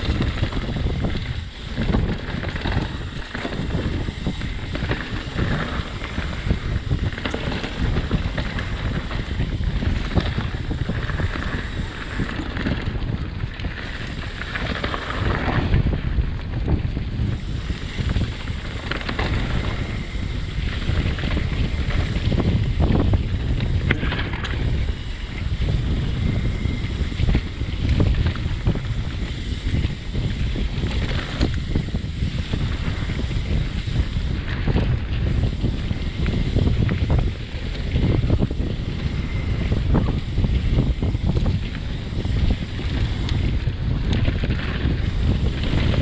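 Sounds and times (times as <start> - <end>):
heavy low rumble: 0.0 - 46.0
wind rushing over microphone: 0.0 - 46.0.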